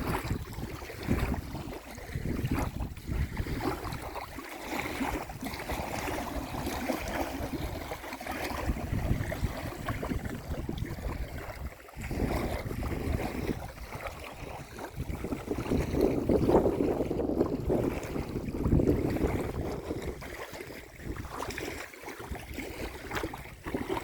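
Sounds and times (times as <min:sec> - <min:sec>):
water lapping and splashing: 0:00.0 - 0:24.0
wind buffeting microphone: 0:00.0 - 0:24.0.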